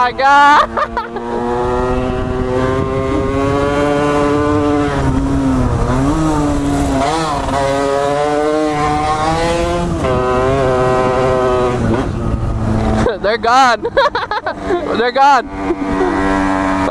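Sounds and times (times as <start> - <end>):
motorcycle engine at high revs: 0.0 - 16.9
wind rumble: 0.7 - 14.8.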